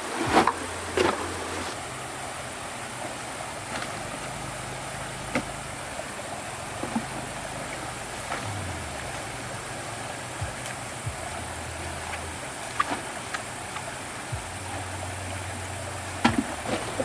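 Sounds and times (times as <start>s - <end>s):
steady rushing noise: 0.0s - 17.0s
low engine-like hum: 1.8s - 17.0s.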